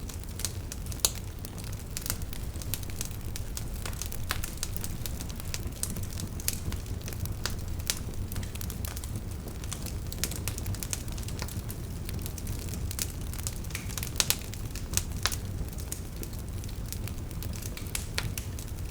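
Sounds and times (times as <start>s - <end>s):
campfire crackling and popping: 0.0s - 18.9s
low rumble of burning: 0.0s - 18.9s.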